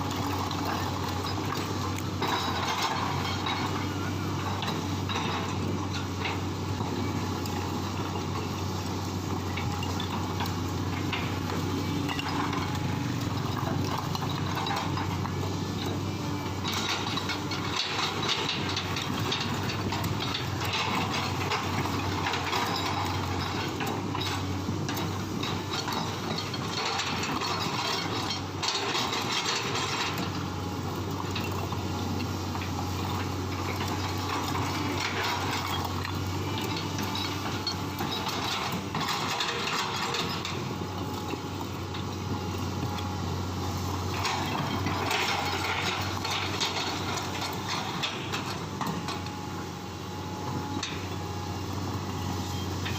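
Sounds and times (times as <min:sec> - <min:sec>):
metallic clanks and rattles: 0:00.0 - 0:43.1, 0:43.8 - 0:49.4, 0:50.4 - 0:51.2
excavator engine running: 0:00.0 - 0:52.9.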